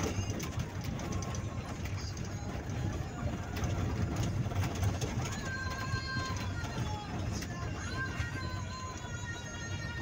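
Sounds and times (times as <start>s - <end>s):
cab rattling: 0.0s - 10.0s
engine and road rumble: 0.0s - 10.0s.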